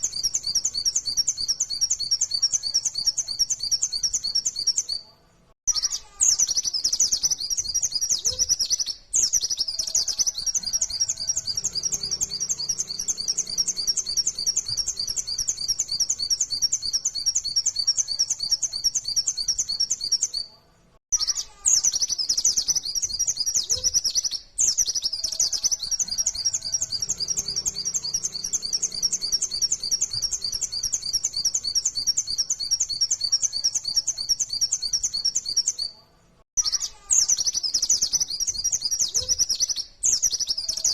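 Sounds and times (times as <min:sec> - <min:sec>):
bird warbling song: 0:00.0 - 0:05.0, 0:05.7 - 0:20.5, 0:21.1 - 0:36.0, 0:36.6 - 0:40.9.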